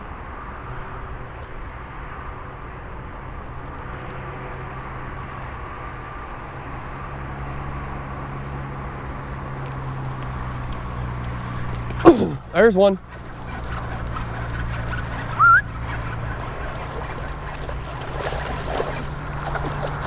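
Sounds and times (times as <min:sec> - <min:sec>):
distant engine hum: 0:00.0 - 0:20.0.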